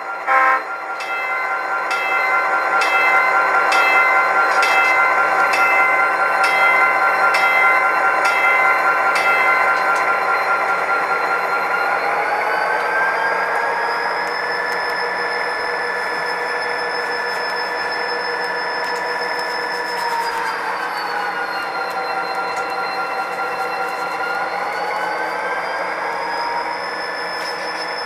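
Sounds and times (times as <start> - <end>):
model locomotive hum: 0.0 - 28.0.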